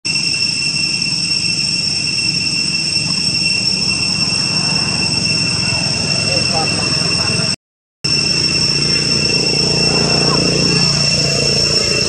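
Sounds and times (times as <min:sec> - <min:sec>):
high-pitched insect drone: 0:00.1 - 0:12.0.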